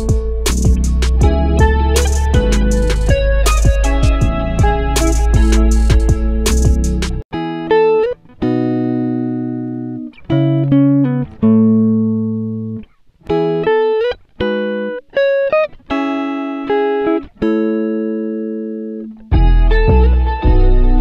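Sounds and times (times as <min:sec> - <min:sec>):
plucked guitar music: 0:00.0 - 0:21.0.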